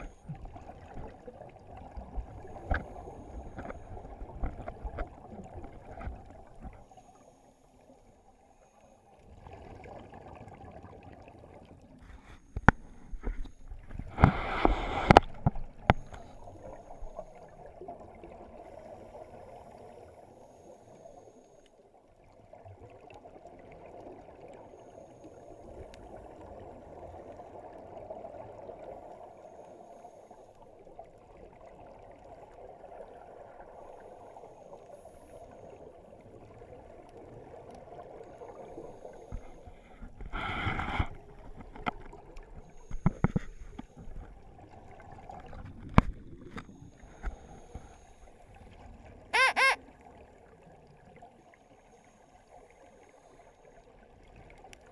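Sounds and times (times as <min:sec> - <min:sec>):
regulator bubbles underwater: 0:00.0 - 0:54.9.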